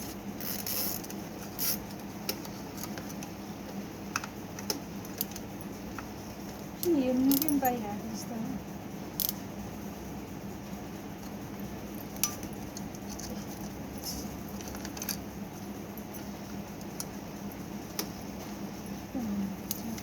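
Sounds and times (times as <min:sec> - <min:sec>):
fan parts clicking: 0:00.0 - 0:08.3, 0:09.0 - 0:09.6, 0:11.0 - 0:20.0
steady low hum: 0:00.0 - 0:20.0.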